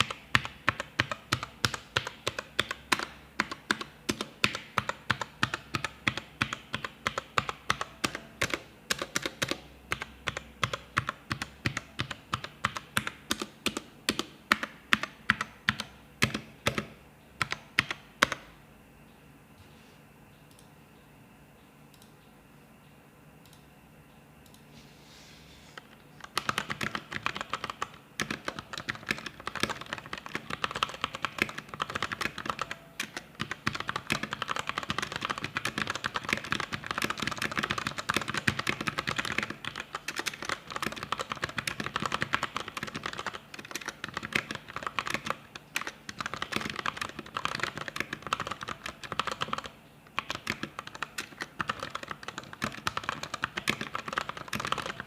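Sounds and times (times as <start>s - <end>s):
mechanical keyboard typing: 0.0s - 18.5s, 26.2s - 55.0s.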